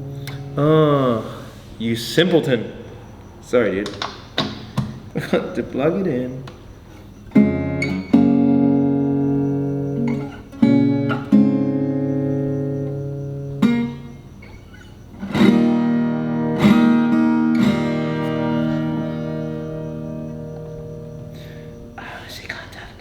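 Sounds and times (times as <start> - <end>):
acoustic guitar chords ringing: 0.0 - 22.6.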